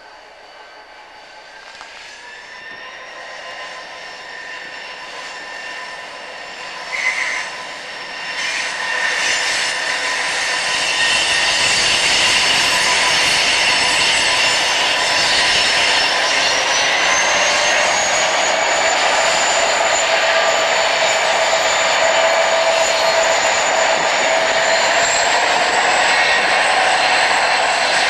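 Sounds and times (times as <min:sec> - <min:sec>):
diesel locomotives passing: 0:00.0 - 0:28.0
steady whine: 0:00.0 - 0:28.0.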